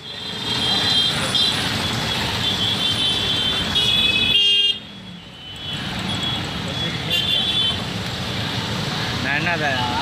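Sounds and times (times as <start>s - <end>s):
city traffic: 0.0s - 10.0s.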